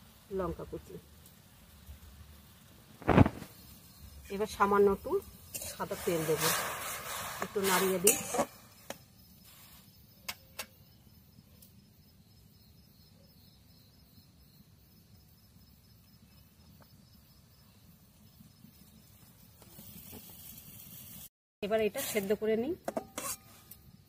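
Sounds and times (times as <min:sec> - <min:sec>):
night insects chirping: 0:00.0 - 0:24.0.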